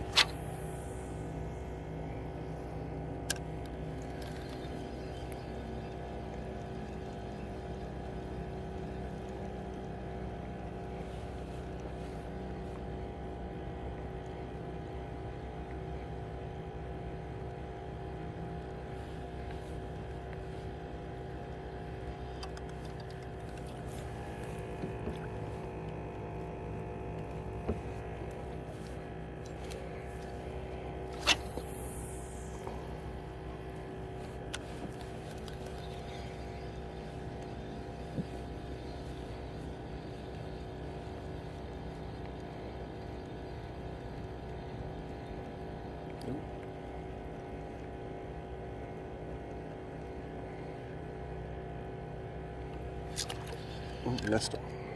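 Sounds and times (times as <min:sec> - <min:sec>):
motorboat engine droning: 0:00.0 - 0:54.9.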